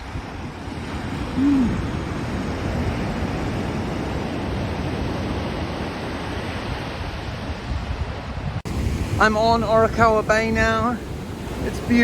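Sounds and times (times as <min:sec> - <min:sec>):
surf rushing on beach: 0:00.0 - 0:12.0
wind buffeting microphone: 0:00.0 - 0:12.0.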